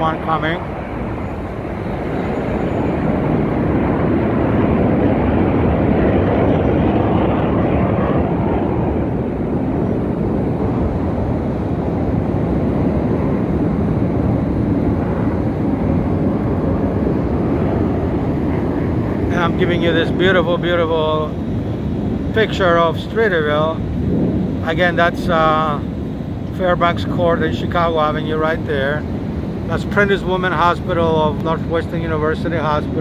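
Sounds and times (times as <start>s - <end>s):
jet flying past: 0.0s - 33.0s.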